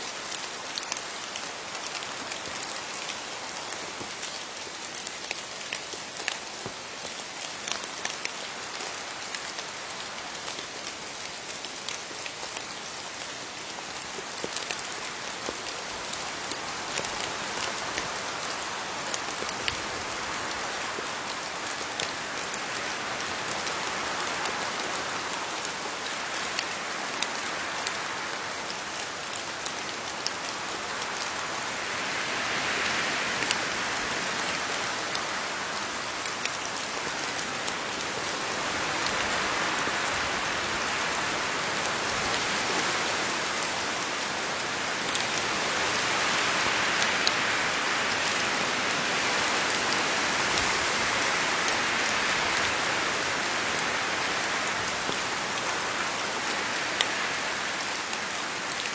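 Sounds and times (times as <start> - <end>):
rain falling on leaves: 0.0 - 58.9.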